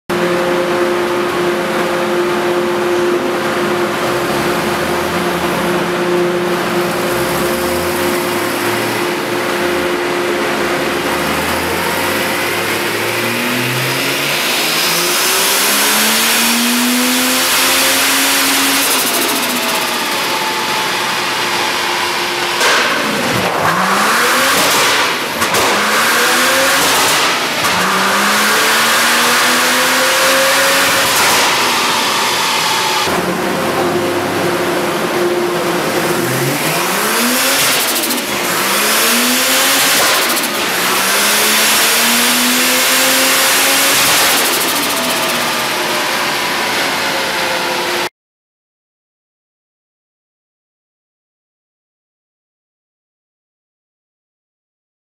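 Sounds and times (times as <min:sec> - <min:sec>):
engine revving under load: 0:00.1 - 0:48.1.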